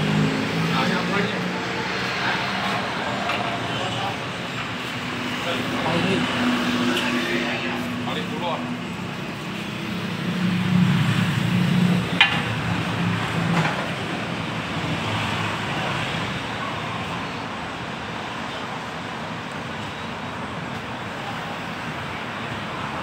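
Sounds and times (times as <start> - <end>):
steady traffic rush: 0.0 - 23.0.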